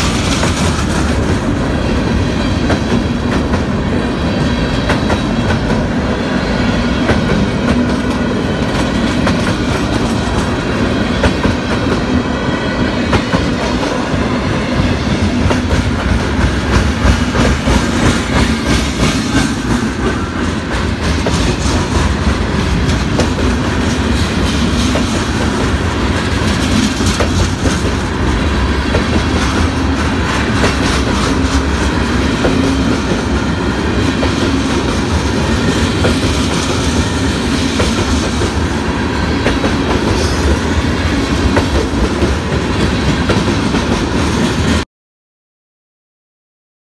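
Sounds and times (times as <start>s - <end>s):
train wheels clicking over rail joints: 0.0s - 6.1s, 7.0s - 12.2s, 13.0s - 44.8s
freight train rumbling past: 0.0s - 44.8s.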